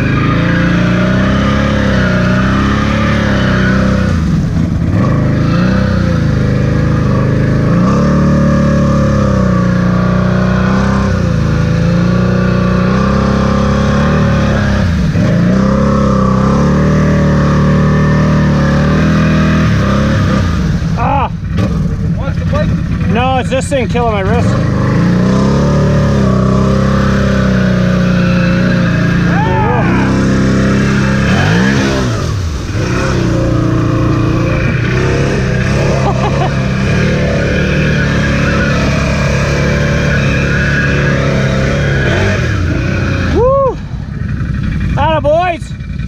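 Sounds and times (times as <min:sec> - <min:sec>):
atv engine revving: 0:00.0 - 0:46.0.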